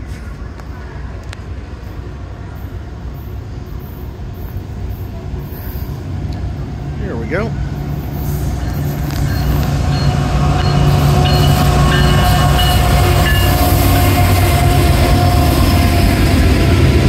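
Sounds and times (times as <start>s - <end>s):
diesel locomotive engines droning: 0.0s - 17.0s
steel wheels rumbling on rail: 0.0s - 17.0s.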